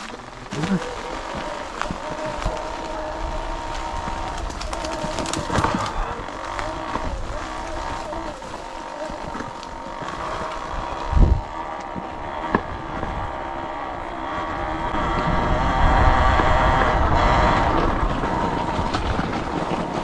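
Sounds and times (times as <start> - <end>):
off-road vehicle engine: 0.0 - 20.0.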